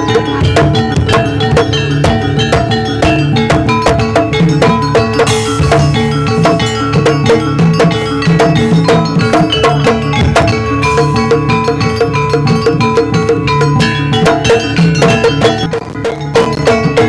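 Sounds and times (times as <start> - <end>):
drums: 0.0 - 17.0
ringing metal percussion: 0.0 - 17.0.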